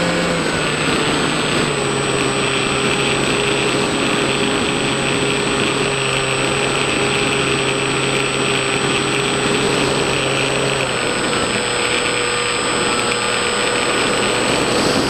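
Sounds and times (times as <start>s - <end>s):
electric motor and propeller: 0.0s - 15.0s.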